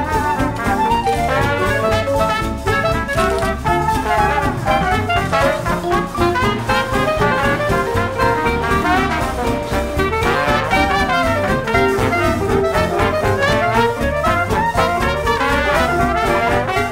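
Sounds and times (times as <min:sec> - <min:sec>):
upbeat jazzy music with brass: 0:00.0 - 0:16.9.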